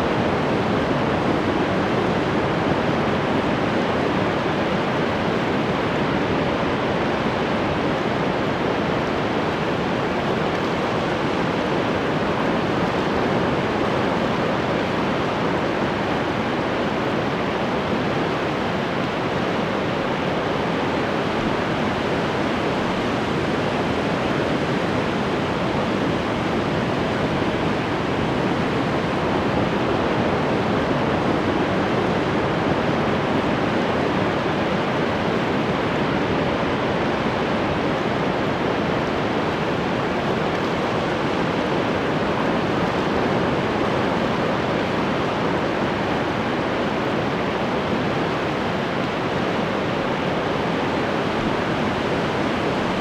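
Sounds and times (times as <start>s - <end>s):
ocean surf washing ashore: 0.0s - 53.0s.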